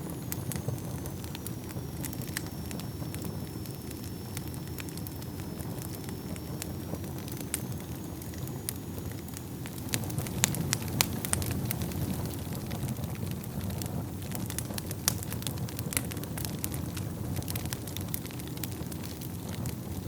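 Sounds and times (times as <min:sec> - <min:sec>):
fire crackling and popping: 0:00.0 - 0:20.0
fire rumbling in a fireplace: 0:00.0 - 0:20.0.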